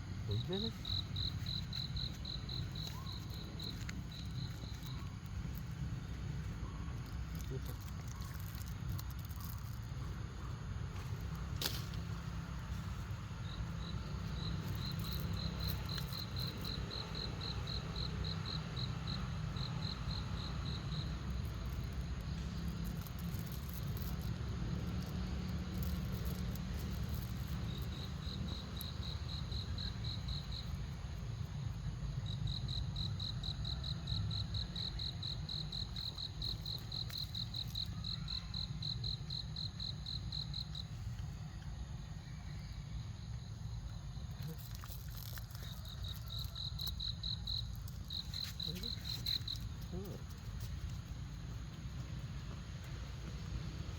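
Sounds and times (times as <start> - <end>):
cricket chirping: 0.0 - 53.9.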